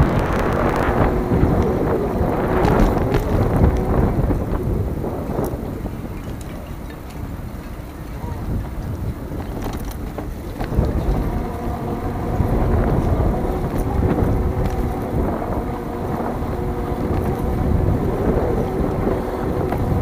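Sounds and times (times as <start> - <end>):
faint steady whine: 0.0 - 20.0
wind buffeting microphone: 0.0 - 20.0.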